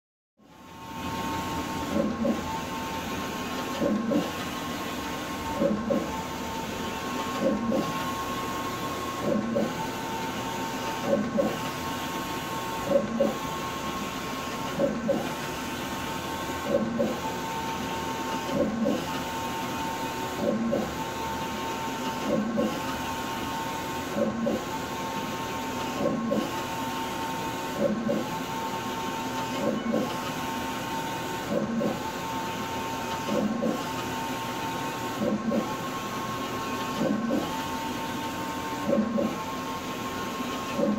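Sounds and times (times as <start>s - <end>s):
steady printer whine: 0.4s - 40.9s.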